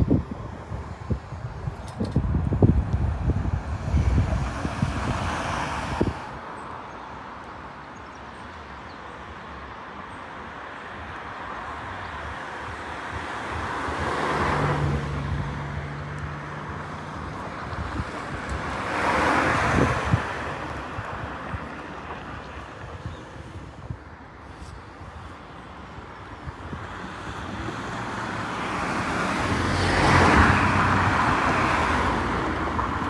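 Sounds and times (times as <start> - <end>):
wind buffeting microphone: 0.0 - 6.4, 11.8 - 33.0
cars passing over crossing: 0.0 - 33.0.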